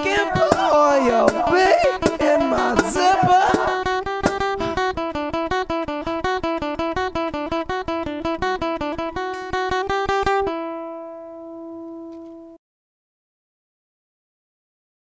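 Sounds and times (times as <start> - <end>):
acoustic guitar picking: 0.0 - 12.6.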